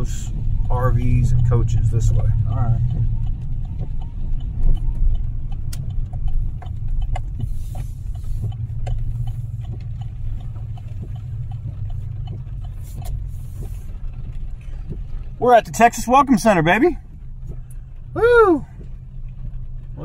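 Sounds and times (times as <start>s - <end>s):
rain ticking on vehicle: 0.0s - 20.0s
truck engine rumble: 0.0s - 20.0s.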